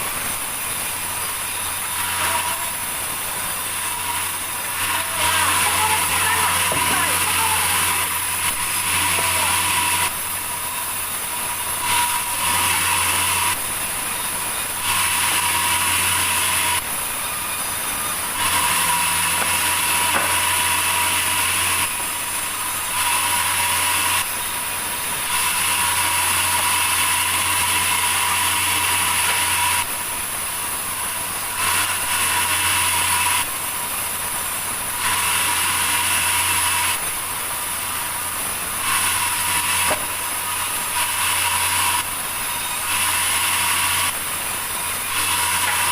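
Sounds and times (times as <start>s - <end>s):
sawmill machinery hum and whine: 0.0s - 45.9s.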